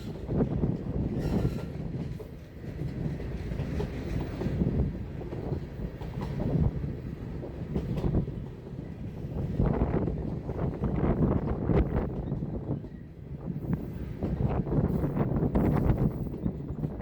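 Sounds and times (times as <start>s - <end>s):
train clanks and knocks: 0.0s - 17.0s
train wheels rumbling: 0.0s - 17.0s.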